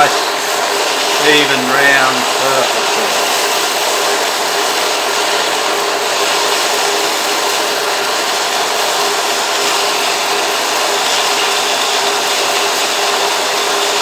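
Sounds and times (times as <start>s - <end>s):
drill press motor running: 0.0s - 14.0s.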